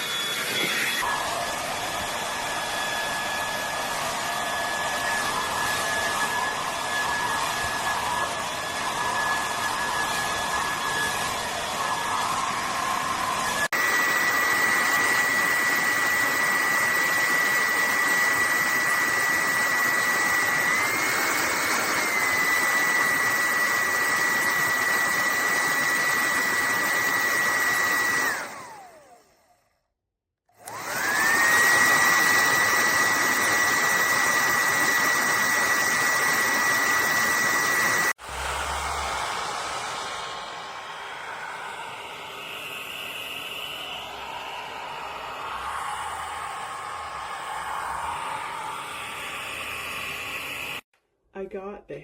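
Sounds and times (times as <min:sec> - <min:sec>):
hair dryer running: 0:00.0 - 0:29.6, 0:30.5 - 0:50.9
hair dryer motor winding down: 0:00.0 - 0:29.8, 0:30.5 - 0:50.9.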